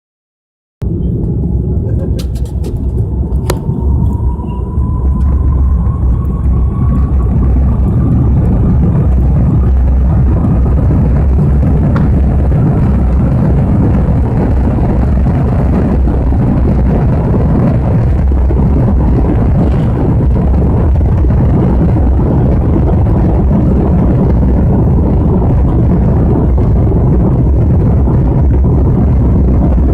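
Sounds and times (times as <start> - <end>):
jet engine low rumble: 0.8 - 29.9
jet engine whine: 0.8 - 29.9.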